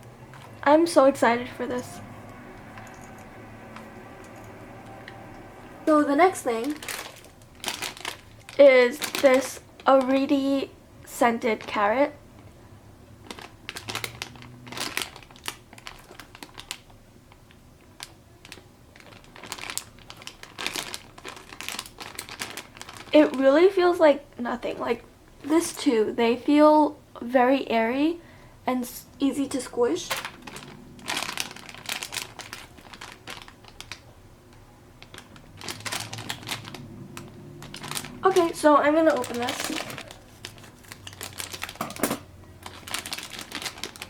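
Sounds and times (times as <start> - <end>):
plastic packaging crinkling: 0.0 - 12.5, 13.1 - 24.7, 29.3 - 44.0.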